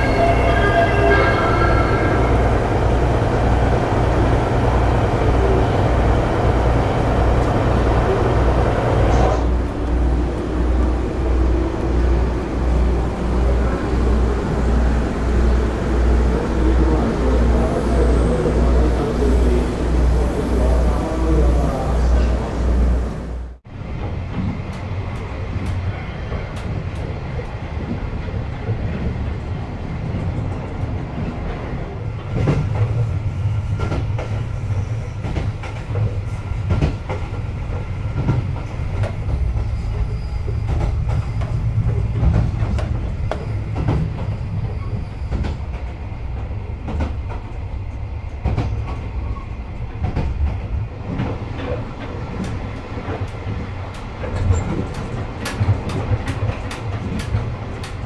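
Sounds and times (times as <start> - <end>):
train coach low rumble: 0.0 - 58.0.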